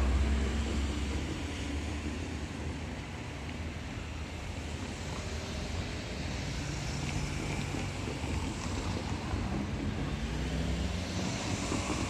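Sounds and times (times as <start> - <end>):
distant train running: 0.0 - 12.0.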